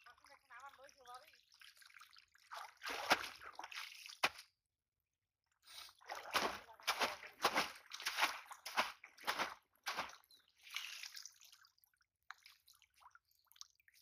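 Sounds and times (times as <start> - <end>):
muddy water sloshing and splashing: 0.0 - 4.6, 5.6 - 14.0.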